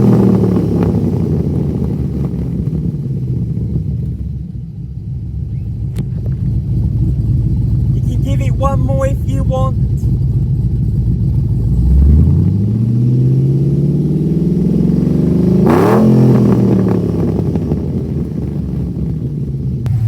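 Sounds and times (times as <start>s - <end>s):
car engine revving: 0.0s - 4.5s, 5.3s - 20.0s.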